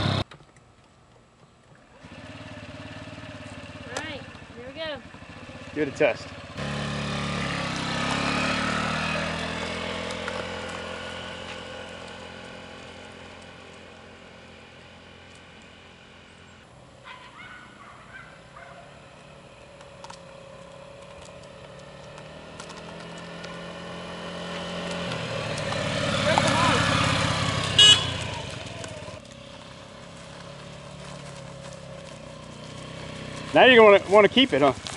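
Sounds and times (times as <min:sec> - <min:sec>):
scooter engine pulling away: 0:00.0 - 0:00.3, 0:01.8 - 0:34.9.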